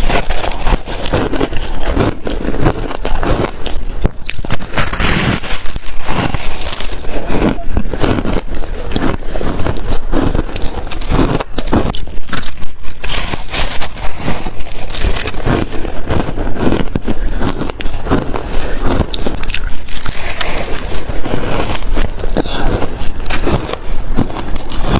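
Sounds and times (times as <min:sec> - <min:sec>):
chewing shaved ice crunches: 0:00.0 - 0:24.9.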